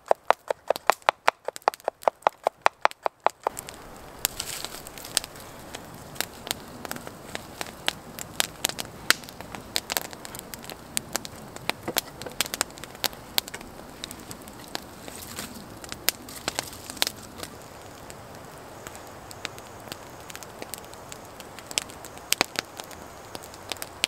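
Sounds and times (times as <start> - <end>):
campfire crackling and popping: 0.0 - 24.0
low steady hiss: 0.0 - 24.0.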